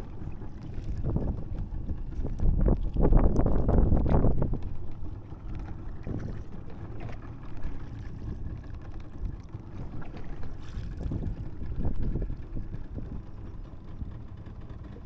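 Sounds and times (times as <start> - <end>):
wind on microphone: 0.0 - 8.6, 9.2 - 14.2
fishing boat low noise: 0.0 - 15.0.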